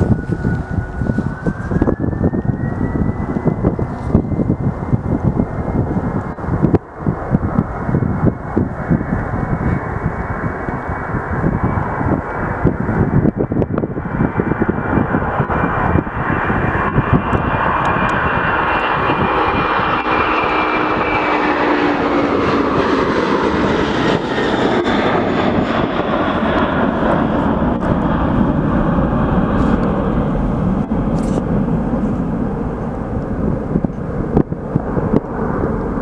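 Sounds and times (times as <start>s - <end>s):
jet engines roaring: 0.0s - 36.0s.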